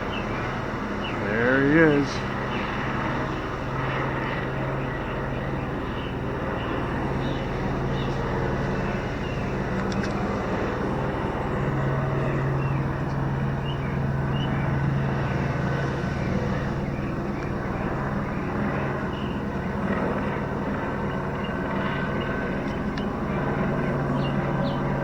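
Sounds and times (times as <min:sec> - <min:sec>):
helicopter flying overhead: 0:00.0 - 0:25.0.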